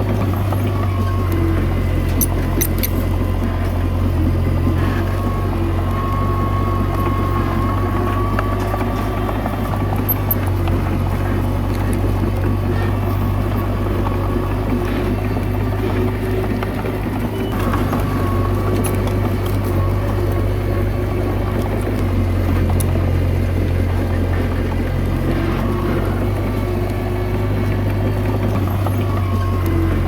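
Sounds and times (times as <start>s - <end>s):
bulldozer diesel engine drone: 0.0s - 30.0s.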